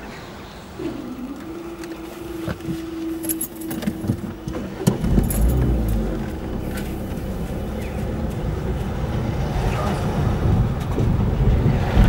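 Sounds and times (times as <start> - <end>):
traffic engine rumble: 0.0 - 12.0
barrier motor whine: 0.6 - 12.0.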